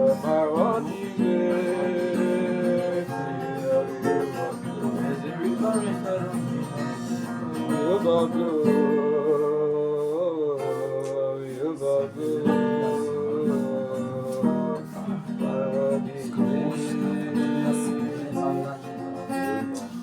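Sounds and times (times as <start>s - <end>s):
guitar strumming and picking: 0.0s - 20.0s.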